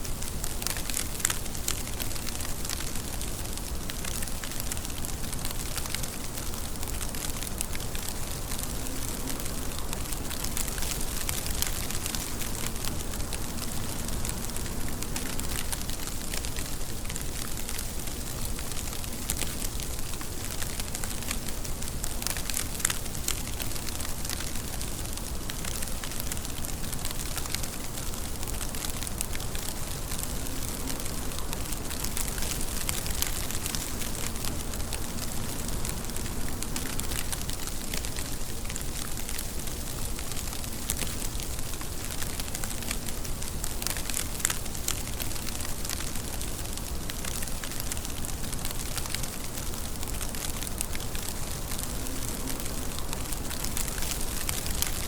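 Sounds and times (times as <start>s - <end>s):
rain hissing: 0.0s - 55.0s
raindrops ticking: 0.0s - 55.0s.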